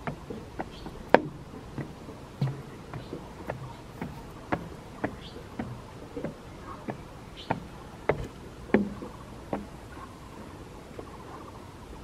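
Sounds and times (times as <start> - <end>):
footsteps on metal stairs: 0.0 - 10.0.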